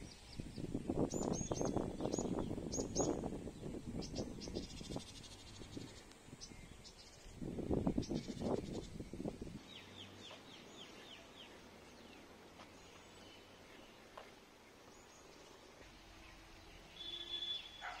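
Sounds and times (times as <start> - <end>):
birds calling faintly: 0.0 - 18.0.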